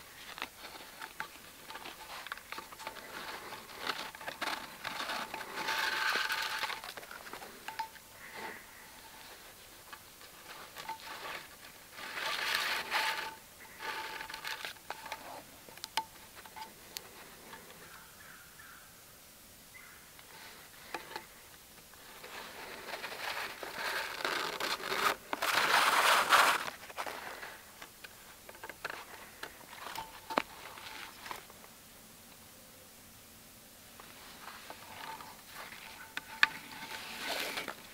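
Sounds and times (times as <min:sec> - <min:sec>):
cord scraping over bark: 0:00.0 - 0:18.0, 0:20.2 - 0:31.6, 0:34.0 - 0:37.9.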